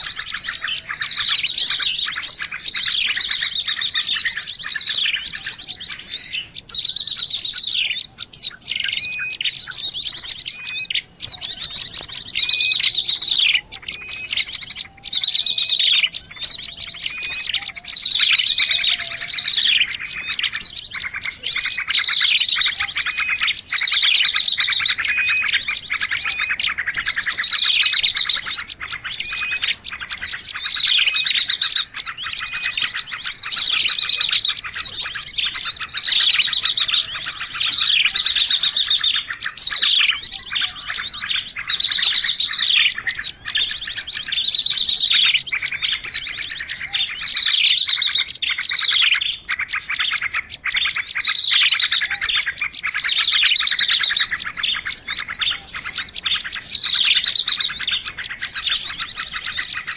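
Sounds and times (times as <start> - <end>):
many songbirds chirping: 0.0 - 59.9.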